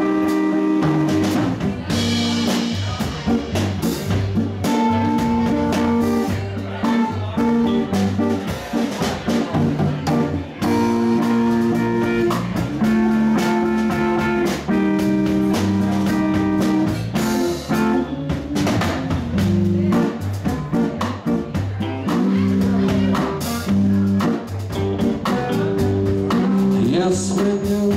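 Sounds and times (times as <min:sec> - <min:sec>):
drum kit hits: 0:00.0 - 0:27.9
electric guitar: 0:00.0 - 0:27.9.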